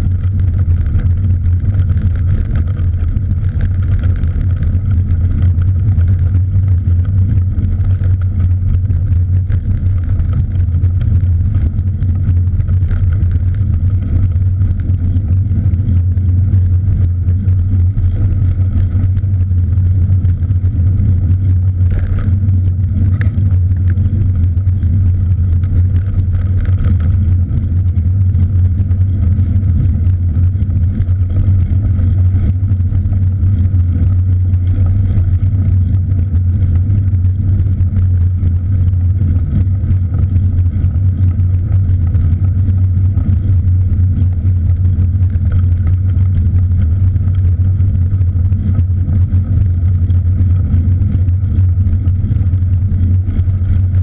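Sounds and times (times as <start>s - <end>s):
wind and road noise rumble: 0.0s - 54.0s.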